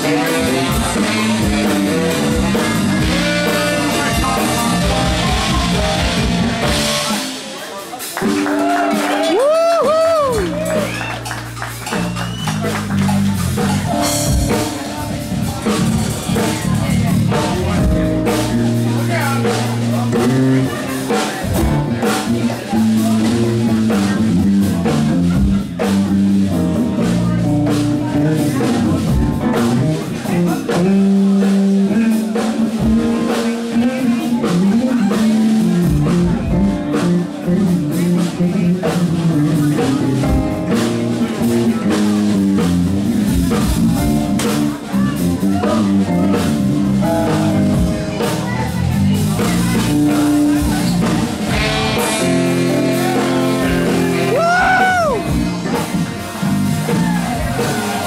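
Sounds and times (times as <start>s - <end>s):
electric bass line: 0.0s - 7.4s, 8.2s - 58.0s
drums: 0.0s - 58.0s
funk band playing: 0.0s - 58.0s.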